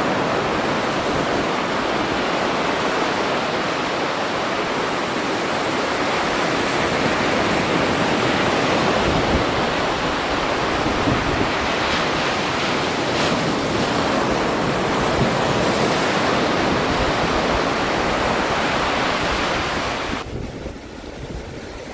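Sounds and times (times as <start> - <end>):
rushing water: 0.0 - 21.9.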